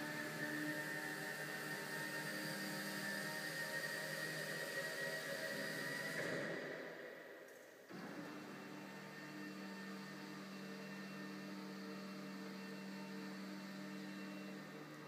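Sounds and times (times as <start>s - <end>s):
electric motor humming: 0.0s - 6.6s, 7.9s - 15.0s.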